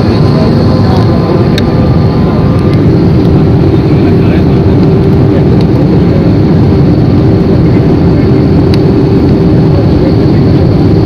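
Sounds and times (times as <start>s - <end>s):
aeroplane cabin roar: 0.0s - 11.0s
steady hum: 0.0s - 11.0s.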